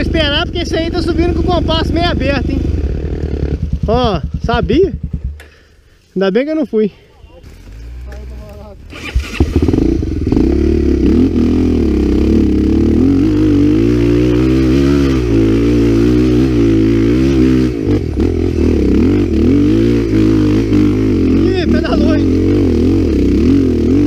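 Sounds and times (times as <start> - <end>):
dirt bike engine revving: 0.0 - 5.7, 7.4 - 24.0.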